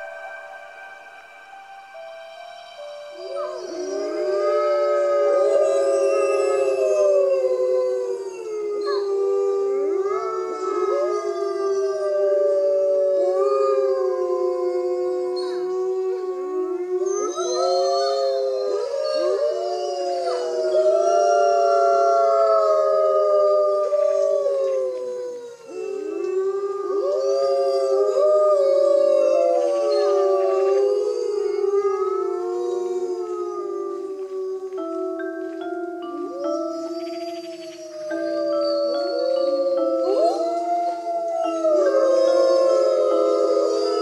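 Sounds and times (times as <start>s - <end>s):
wolves howling in chorus: 0.0s - 44.0s.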